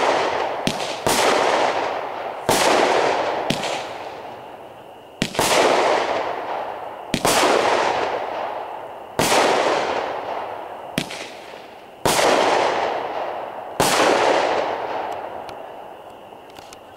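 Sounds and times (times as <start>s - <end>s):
firework bangs: 0.0s - 16.0s.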